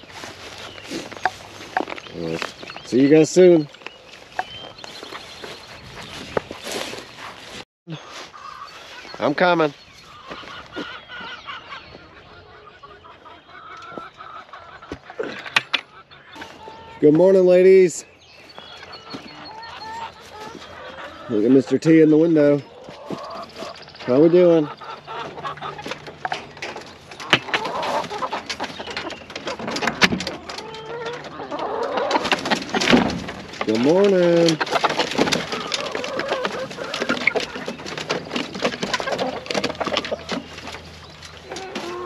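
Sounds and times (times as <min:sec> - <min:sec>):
hens clucking: 0:00.0 - 0:42.0.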